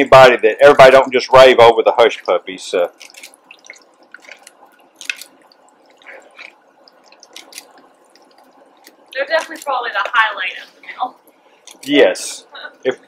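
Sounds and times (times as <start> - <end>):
faint frying hiss: 0.0 - 13.0
oil crackling and popping: 0.6 - 10.4, 11.1 - 12.3.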